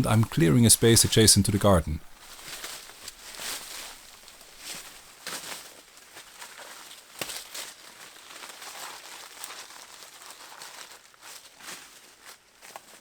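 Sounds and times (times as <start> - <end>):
brush rustling and crackling: 2.2 - 13.0.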